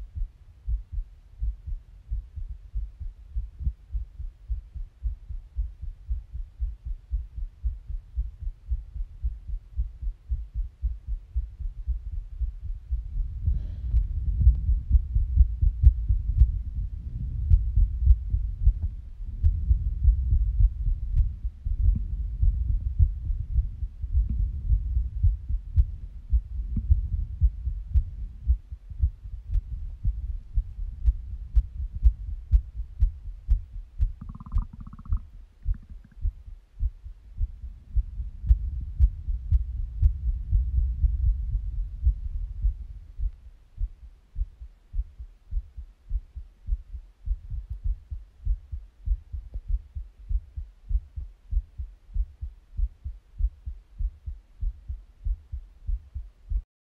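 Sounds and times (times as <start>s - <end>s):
muffled heartbeat thumps: 0.0s - 56.7s.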